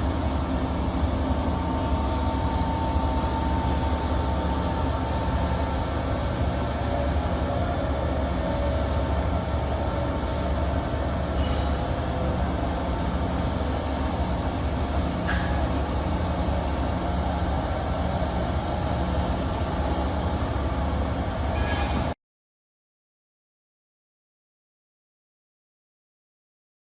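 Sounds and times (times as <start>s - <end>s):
boring mill humming and rumbling: 0.0s - 22.2s.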